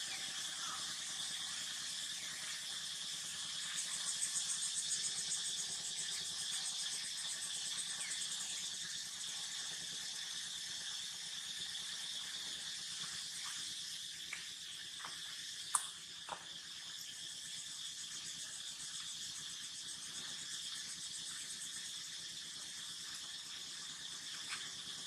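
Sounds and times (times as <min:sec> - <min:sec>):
shrill insect chorus: 0:00.0 - 0:25.0.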